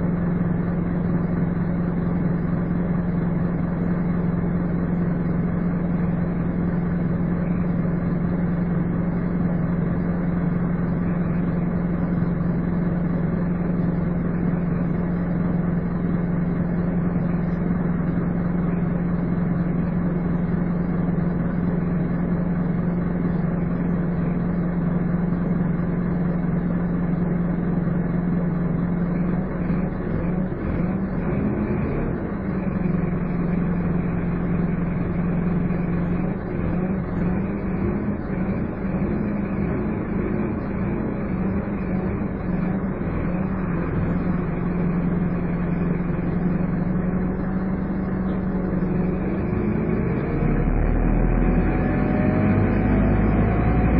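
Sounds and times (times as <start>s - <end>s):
bus engine whining drone: 0.0s - 53.9s.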